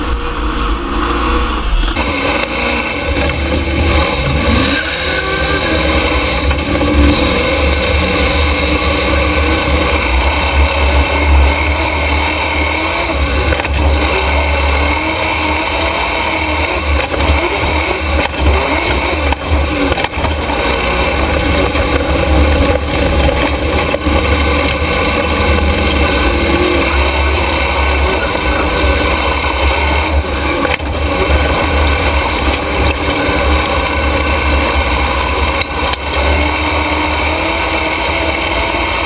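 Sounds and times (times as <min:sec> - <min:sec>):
race truck engine running hard: 0:00.0 - 0:39.0.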